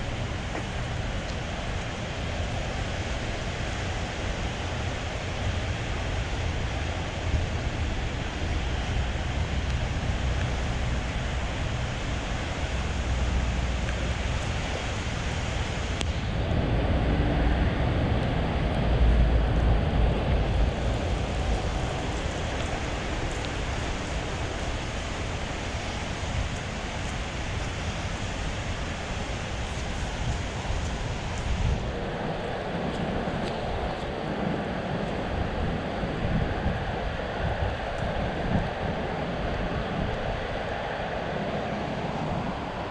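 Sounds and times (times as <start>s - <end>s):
city noise: 0.0s - 42.9s
wind rumbling on microphone: 0.0s - 42.9s.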